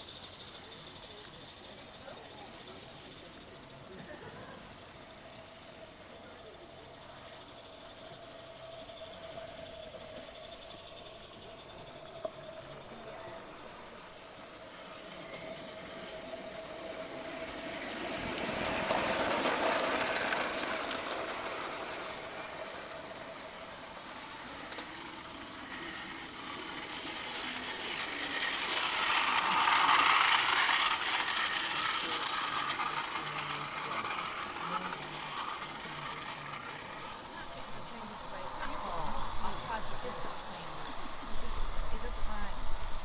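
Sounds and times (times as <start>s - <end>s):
model steam train passing: 0.0s - 43.0s.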